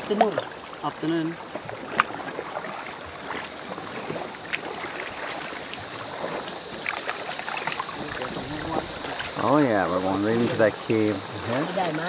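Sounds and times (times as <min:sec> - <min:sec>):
water splashing around canoe: 0:00.0 - 0:12.0.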